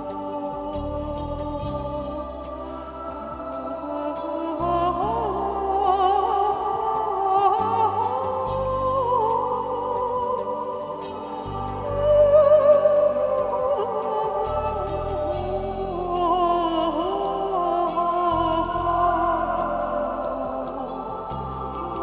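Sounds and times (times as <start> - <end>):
slow melody with vibrato: 0.0 - 22.0
sustained bass notes: 0.0 - 22.0.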